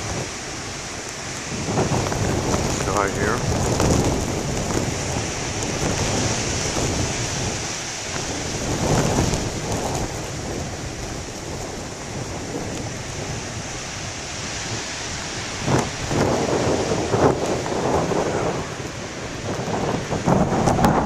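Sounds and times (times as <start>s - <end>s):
ocean surf: 0.0s - 21.0s
wind buffeting microphone: 0.0s - 21.0s.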